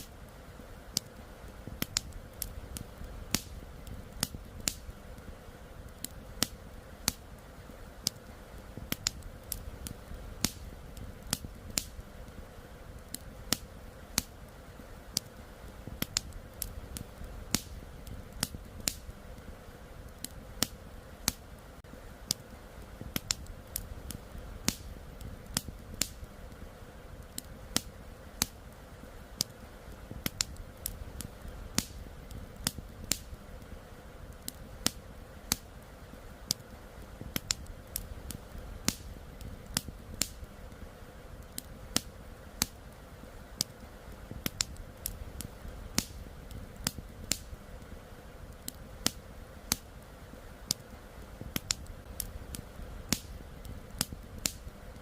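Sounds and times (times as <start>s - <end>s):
campfire wood crackling: 0.0s - 55.0s
low background rush: 0.0s - 55.0s.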